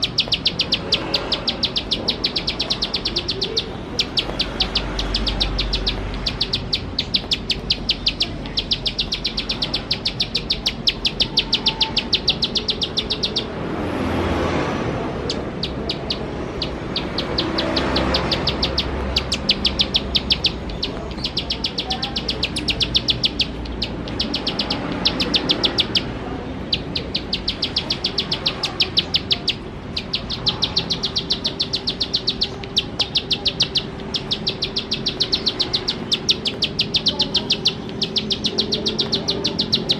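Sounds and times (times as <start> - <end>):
bird ticking song: 0.0 - 14.2, 15.2 - 39.9.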